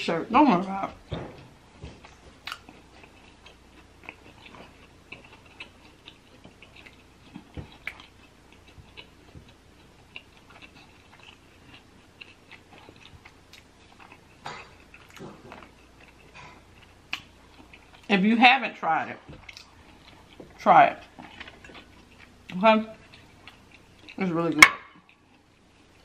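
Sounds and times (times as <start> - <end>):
person chewing food: 0.9 - 18.1, 19.2 - 26.0.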